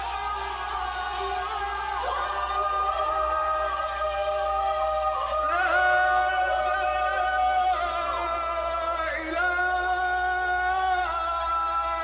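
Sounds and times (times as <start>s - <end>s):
solo voice singing long notes: 0.0s - 12.0s.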